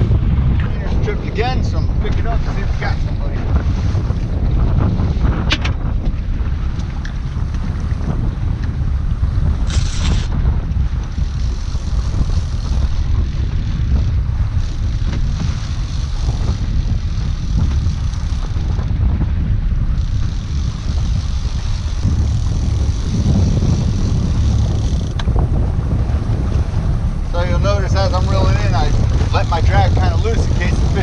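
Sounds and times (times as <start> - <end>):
outboard engine running: 0.0 - 31.0
wind rumble on microphone: 0.0 - 31.0.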